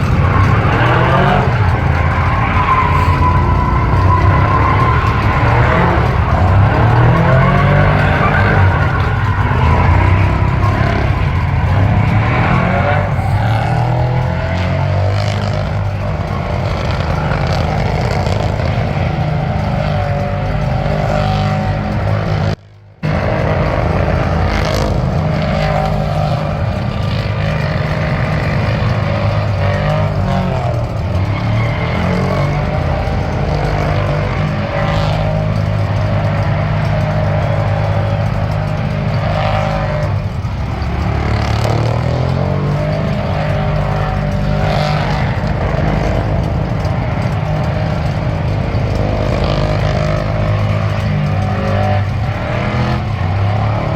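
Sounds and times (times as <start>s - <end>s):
truck engine at high revs: 0.0s - 53.9s
tyre squeal: 0.0s - 53.9s.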